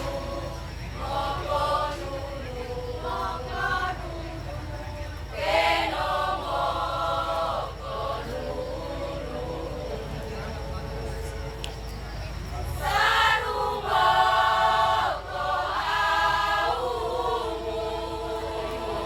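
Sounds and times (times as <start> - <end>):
choir singing held chords: 0.0 - 19.0
steady low hum: 0.0 - 19.0.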